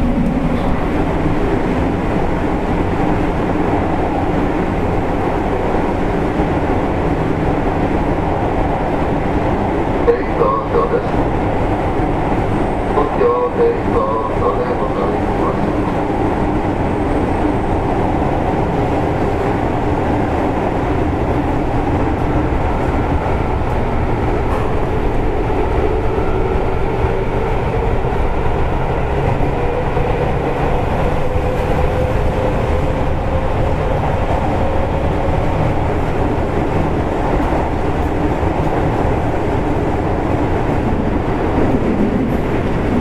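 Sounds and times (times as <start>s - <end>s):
train wheels rumbling: 0.0s - 43.0s.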